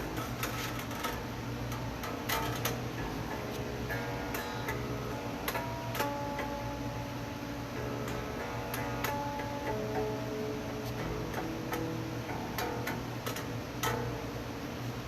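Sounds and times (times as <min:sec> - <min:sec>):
plucked string notes: 0:00.0 - 0:15.0.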